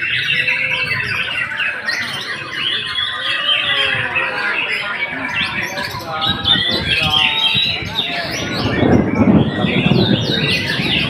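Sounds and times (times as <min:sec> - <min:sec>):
murmur of voices: 0:00.0 - 0:11.0
other songbirds: 0:00.0 - 0:11.0.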